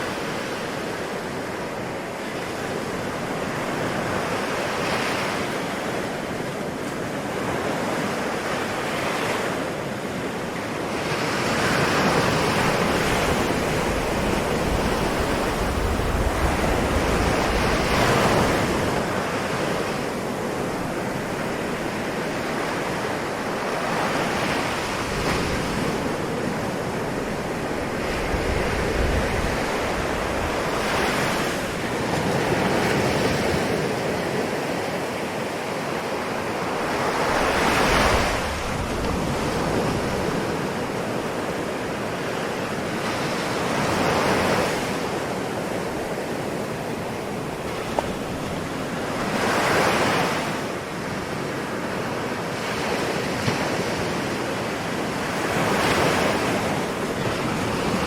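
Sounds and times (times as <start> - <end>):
ocean waves breaking: 0.0 - 58.0.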